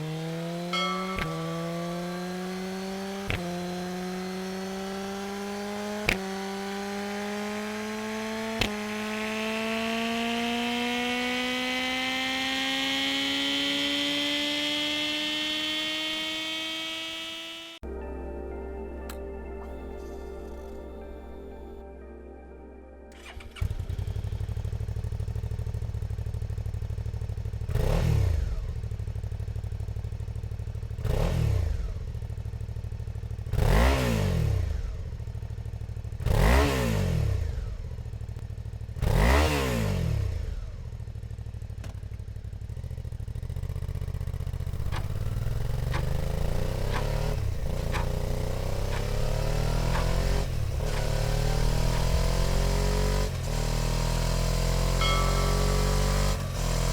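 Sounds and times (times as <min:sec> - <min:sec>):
motorcycle engine revving: 0:00.0 - 0:17.9, 0:23.1 - 0:56.9.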